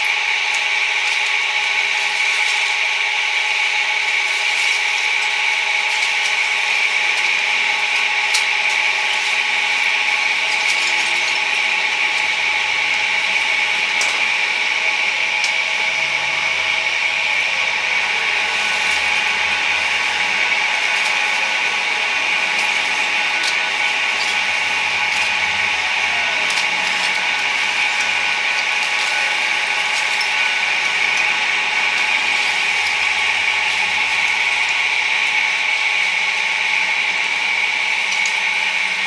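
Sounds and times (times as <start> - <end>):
grill hissing: 0.0 - 39.0.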